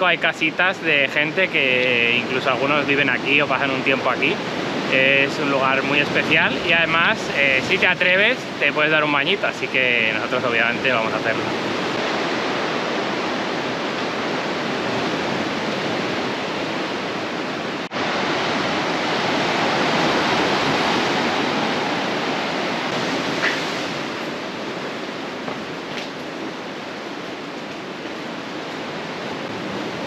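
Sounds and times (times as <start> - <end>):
surf breaking over rocks: 0.0 - 17.2, 17.8 - 30.0.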